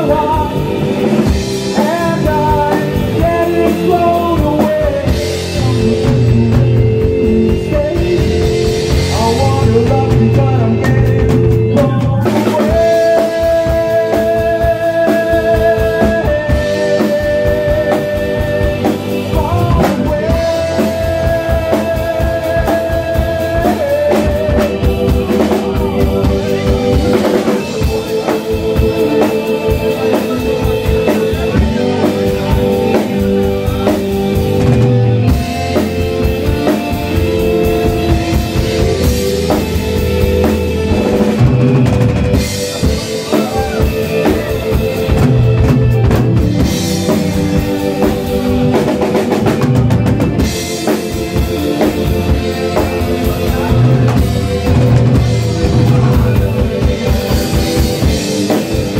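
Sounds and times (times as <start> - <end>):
drum kit beat: 0.0 - 58.9
live rock band instrumental: 0.0 - 58.9.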